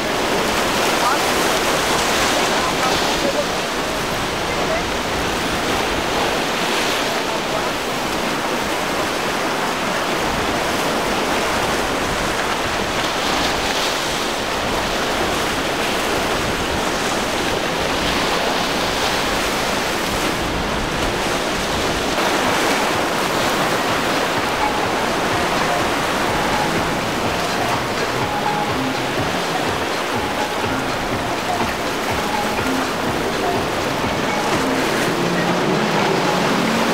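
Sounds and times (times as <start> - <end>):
waves breaking in rough surf: 0.0 - 36.9.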